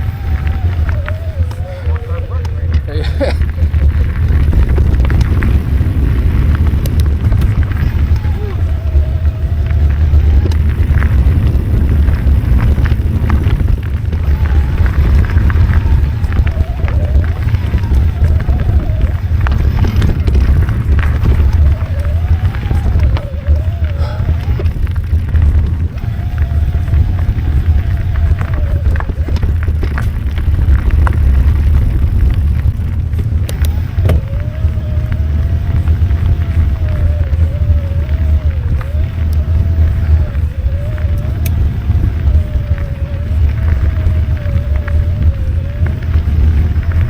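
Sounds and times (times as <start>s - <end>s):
bike clicks and rattles: 0.0s - 47.0s
thin steady whine: 0.0s - 47.0s
wind buffeting microphone: 0.0s - 47.0s.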